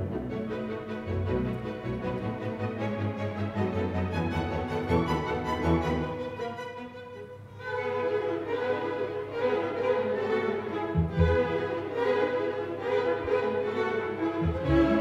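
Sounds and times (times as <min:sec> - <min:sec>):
bowed strings: 0:00.0 - 0:15.0
symphony orchestra playing: 0:00.0 - 0:15.0.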